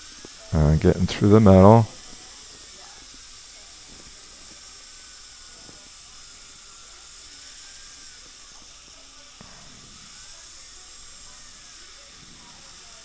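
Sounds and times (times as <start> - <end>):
dental drill grinding metal: 0.0 - 13.0.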